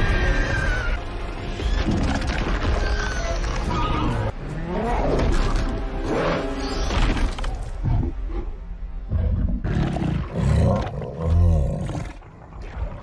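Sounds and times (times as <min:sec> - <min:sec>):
dramatic film score: 0:00.0 - 0:13.0.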